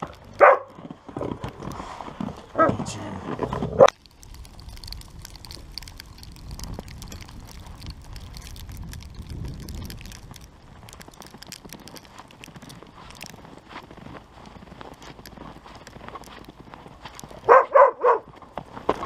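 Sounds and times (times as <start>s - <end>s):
faint crackling and ticking: 0.0s - 19.0s.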